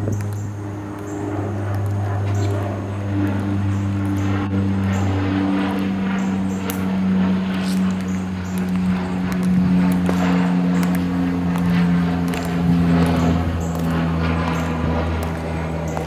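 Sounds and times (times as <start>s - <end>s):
engine drone: 0.0s - 16.0s
sharp clicks: 0.1s - 16.0s.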